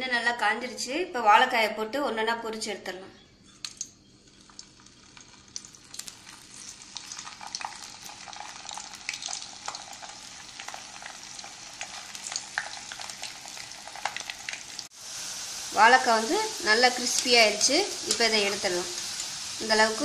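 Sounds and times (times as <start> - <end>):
crackling pops of frying: 3.5 - 20.0
plantain slices sizzling in oil: 3.6 - 20.0.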